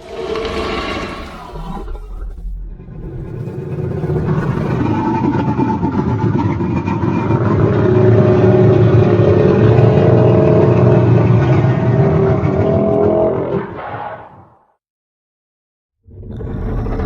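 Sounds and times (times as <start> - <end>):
dinosaur roar: 0.0 - 14.6, 16.1 - 17.0.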